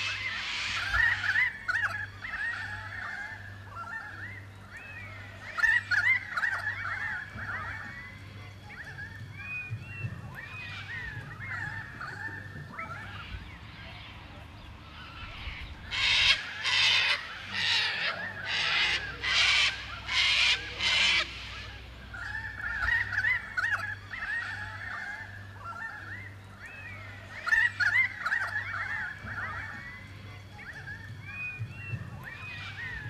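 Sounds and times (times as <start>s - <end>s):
bird giving harsh calls: 0.0s - 33.0s
small birds twittering: 0.0s - 33.0s.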